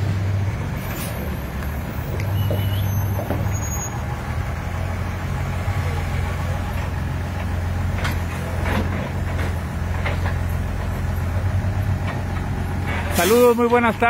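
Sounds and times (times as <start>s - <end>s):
heavy diesel engines running: 0.0s - 14.0s.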